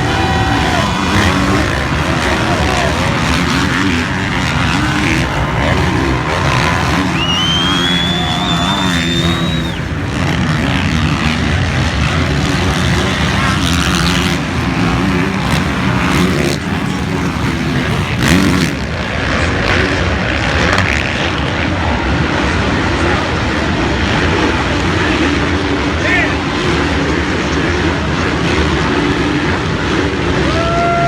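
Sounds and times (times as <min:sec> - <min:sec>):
motocross engines revving: 0:00.0 - 0:31.0.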